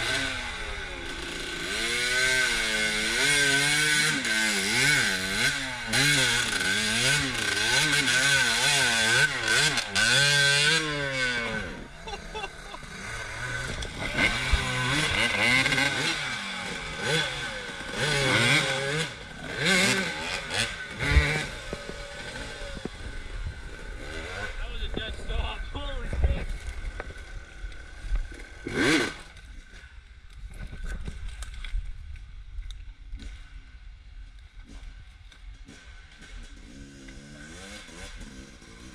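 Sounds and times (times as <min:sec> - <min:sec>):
dirt bike engine revving: 0:00.0 - 0:29.9, 0:35.6 - 0:38.9.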